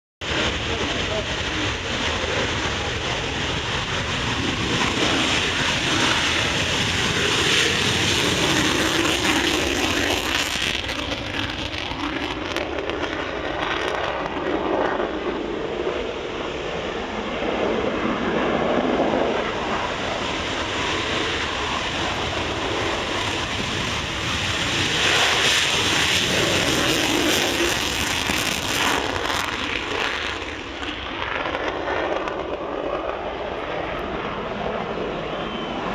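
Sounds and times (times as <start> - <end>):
jets taking off: 0.2 - 35.9.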